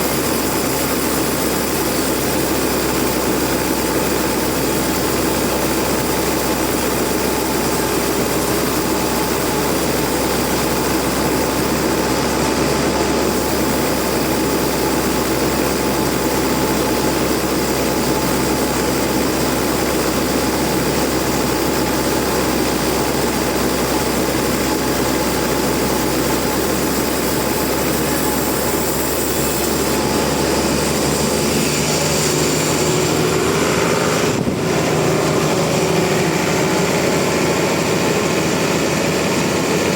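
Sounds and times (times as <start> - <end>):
saw cutting: 0.0 - 39.9
sawmill machine drone: 0.0 - 39.9.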